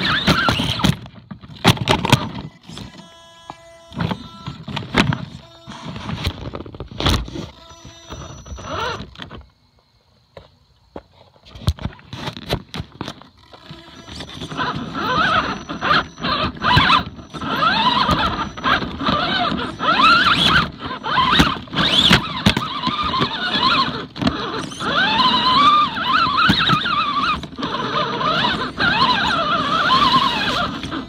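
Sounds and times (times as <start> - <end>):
electric motor and gears whining: 0.0 - 9.6, 11.7 - 31.0.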